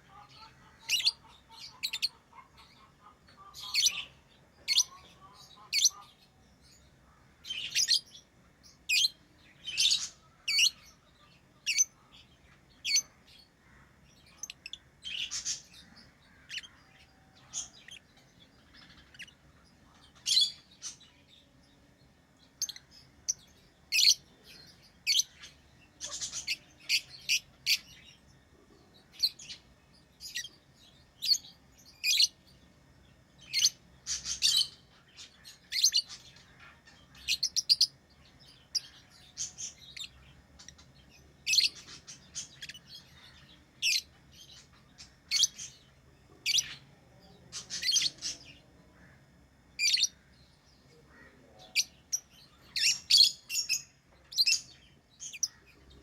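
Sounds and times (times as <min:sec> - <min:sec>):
faint low hum: 0:00.0 - 0:56.0
lovebirds chirping: 0:00.0 - 0:56.0.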